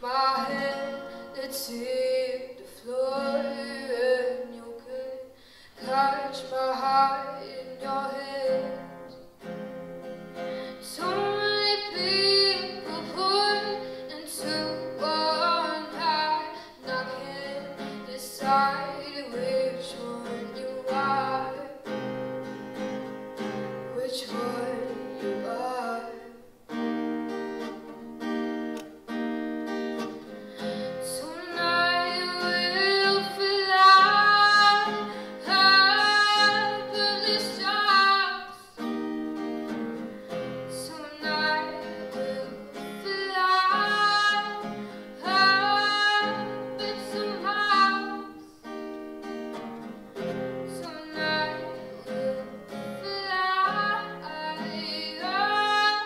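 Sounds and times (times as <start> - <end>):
woman singing: 0.0 - 9.3, 10.4 - 22.1, 23.4 - 26.5, 30.2 - 38.9, 39.7 - 48.7, 50.2 - 56.0
acoustic guitar chords: 0.0 - 56.0.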